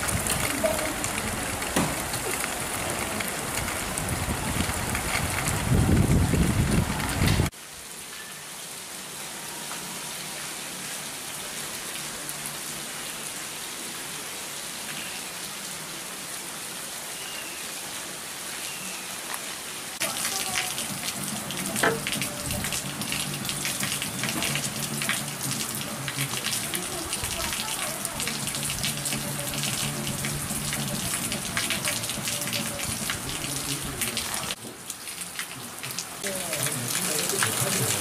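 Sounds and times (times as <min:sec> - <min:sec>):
heavy rain pouring: 0:00.0 - 0:38.0
rain splashing on wet surface: 0:00.0 - 0:38.0.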